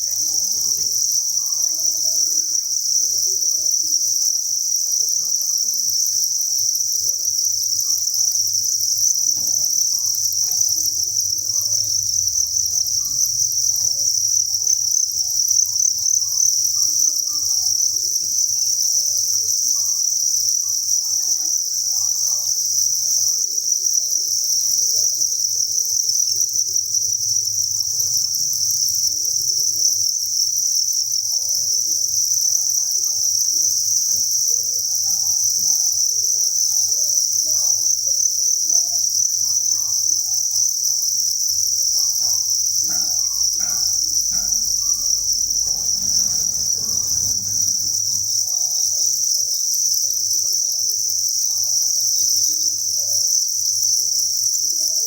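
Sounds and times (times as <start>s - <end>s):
crickets chirping in chorus: 0.0s - 55.0s.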